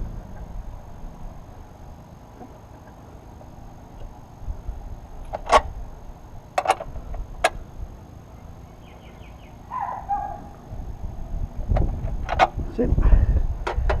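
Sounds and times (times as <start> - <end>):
low rumbling of parts handled: 0.0 - 8.0, 9.8 - 14.0.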